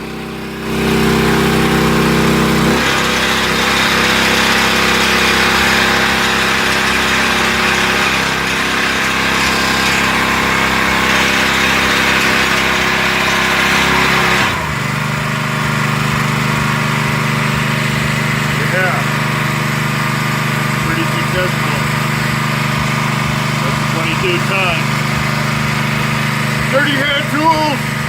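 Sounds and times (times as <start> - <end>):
small gas engine running: 0.0 - 28.0.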